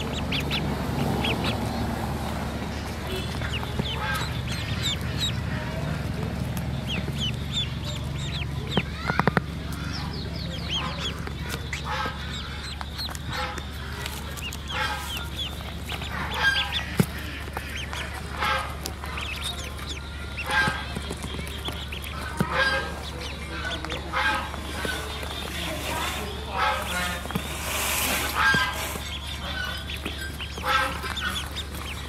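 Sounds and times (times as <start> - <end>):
ducklings peeping: 0.0 - 32.0
harsh lower calls: 0.0 - 32.0.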